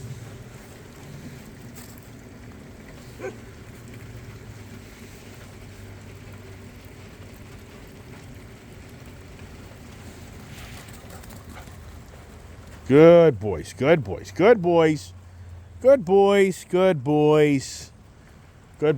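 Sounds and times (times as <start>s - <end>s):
light rain: 0.0s - 18.9s.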